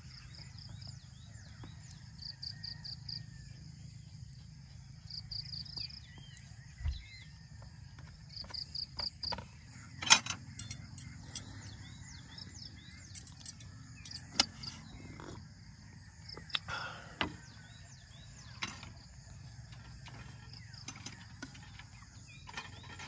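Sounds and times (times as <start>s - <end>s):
bird calls: 0.0s - 23.0s
insect chirping: 0.0s - 23.0s.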